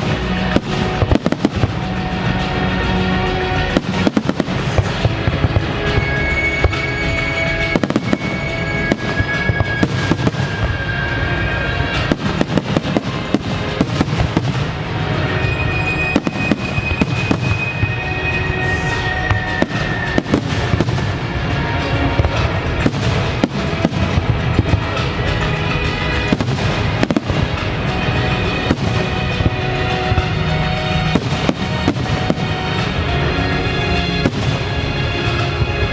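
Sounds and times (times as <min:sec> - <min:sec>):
fireworks bangs and crackling: 0:00.0 - 0:35.9
music playing: 0:00.0 - 0:35.9.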